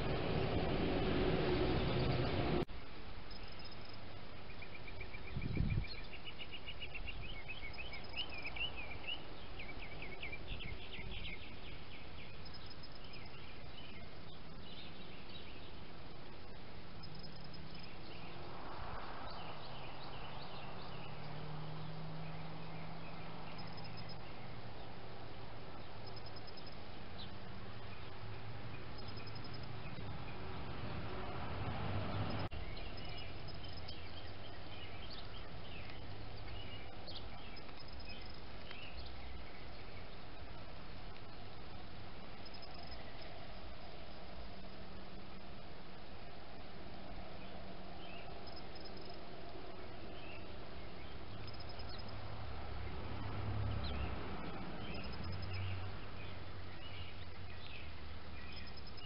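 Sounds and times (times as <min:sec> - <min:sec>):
birds chirping and trilling: 0:00.0 - 0:59.0
steady hiss: 0:00.0 - 0:59.0.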